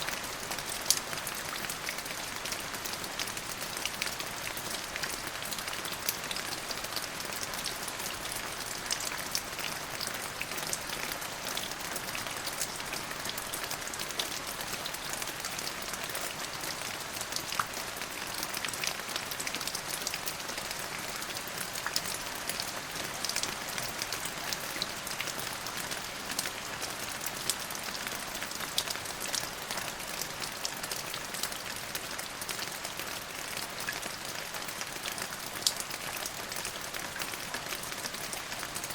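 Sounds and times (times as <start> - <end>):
rain falling: 0.0 - 38.9
raindrops pattering on surface: 0.0 - 38.9.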